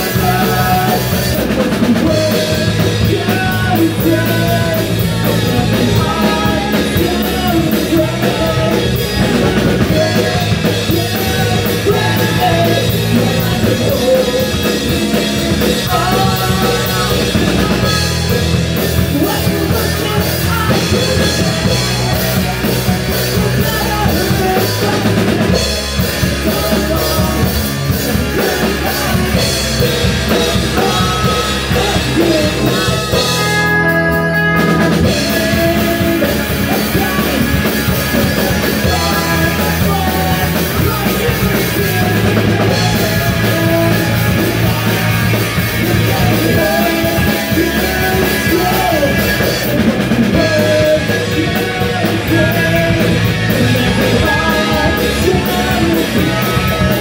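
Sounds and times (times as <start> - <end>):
bass guitar: 0.0 - 57.0
distorted electric guitar: 0.0 - 57.0
drum kit: 0.0 - 57.0
person singing: 0.0 - 57.0.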